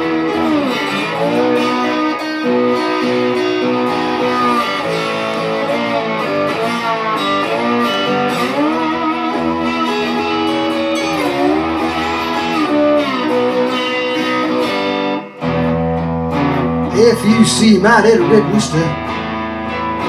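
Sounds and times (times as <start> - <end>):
slide electric guitar: 0.0 - 20.0.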